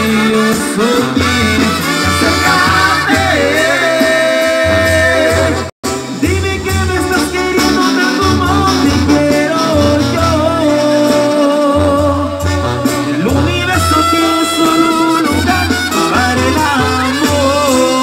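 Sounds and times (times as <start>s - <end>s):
banda brass music: 0.0s - 18.0s
tuba bass: 0.0s - 18.0s.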